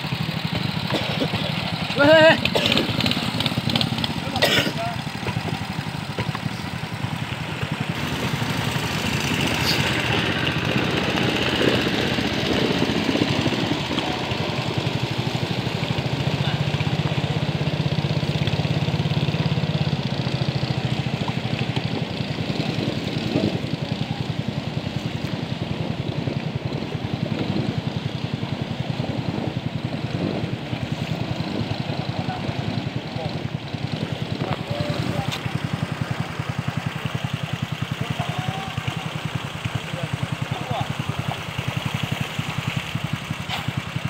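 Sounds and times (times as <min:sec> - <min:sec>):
boat engine pulsing: 0:00.0 - 0:44.0
passing motorboat engine: 0:00.0 - 0:44.0.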